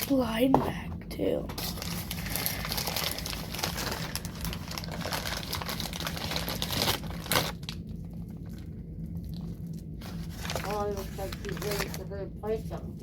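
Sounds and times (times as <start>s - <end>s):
low hum: 0.0s - 13.0s
plastic packaging crinkling: 1.5s - 12.8s.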